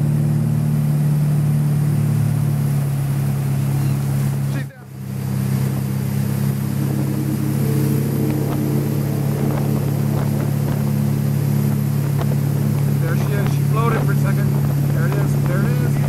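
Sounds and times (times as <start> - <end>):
boat engine humming: 0.0 - 16.0
water rushing and spraying: 0.0 - 16.0.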